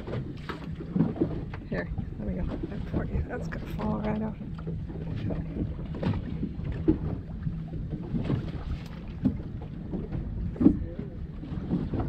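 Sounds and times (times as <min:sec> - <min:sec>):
steady low rumble: 0:00.0 - 0:12.0
wind buffeting microphone: 0:00.0 - 0:12.0.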